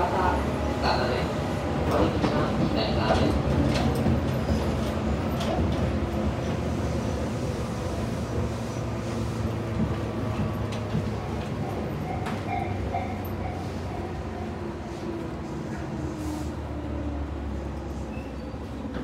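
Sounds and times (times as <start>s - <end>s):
train motors and wheels droning: 0.0s - 19.0s.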